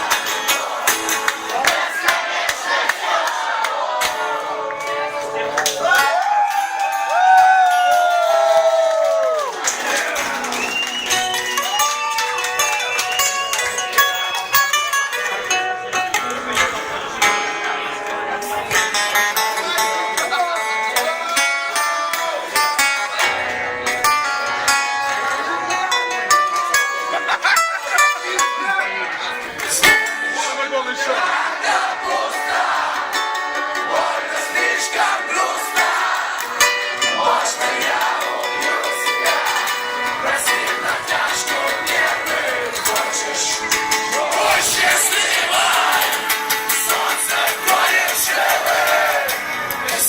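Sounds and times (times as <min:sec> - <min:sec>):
acoustic guitar quick notes: 0:00.0 - 0:06.0, 0:12.2 - 0:50.0
crowd noise: 0:00.0 - 0:50.0.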